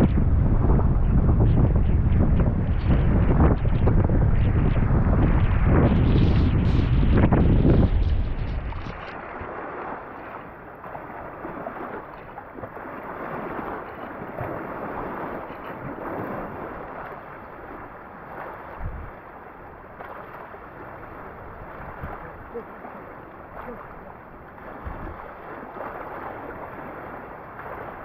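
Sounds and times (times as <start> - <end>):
floodwater rushing and sloshing: 0.0 - 28.0
wind gust on microphone: 0.0 - 28.0.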